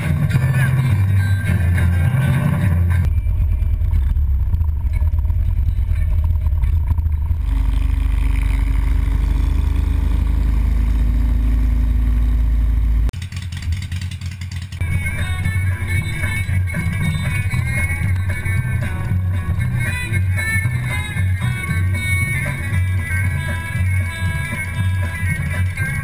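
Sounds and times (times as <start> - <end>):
motorcycle engine rumble: 0.0 - 26.0.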